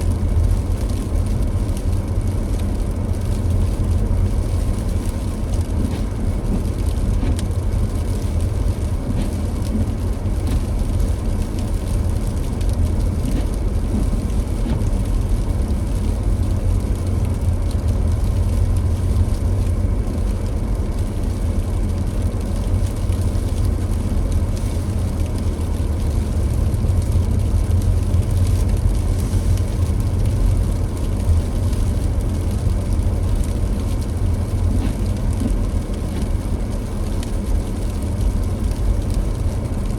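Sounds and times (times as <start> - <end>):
car engine and tyres rumbling: 0.0 - 39.9
road noise hiss: 0.0 - 39.9.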